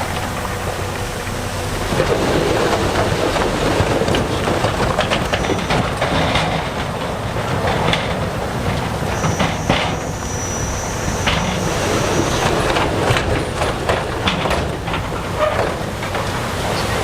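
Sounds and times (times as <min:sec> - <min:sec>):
diesel machinery running: 0:00.0 - 0:17.0.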